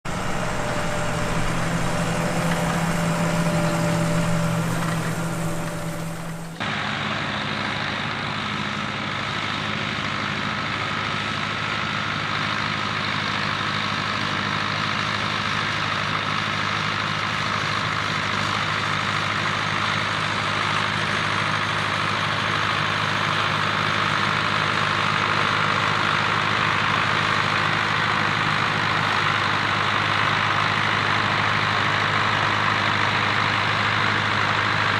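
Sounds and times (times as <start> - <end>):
tractor diesel engine droning: 0.0 - 34.9.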